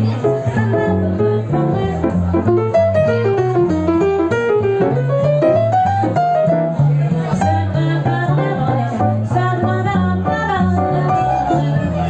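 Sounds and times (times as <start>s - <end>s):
jazz band playing swing: 0.0s - 12.0s.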